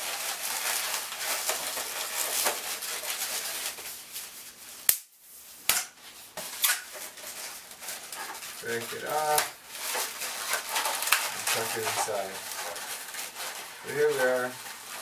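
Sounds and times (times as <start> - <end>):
balloons squeaking and rubbing: 0.0 - 4.8, 6.2 - 15.0.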